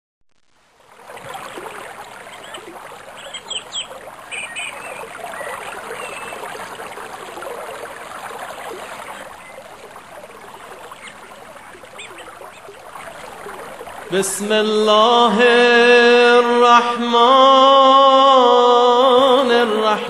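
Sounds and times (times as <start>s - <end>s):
stream water rushing: 0.6s - 19.8s.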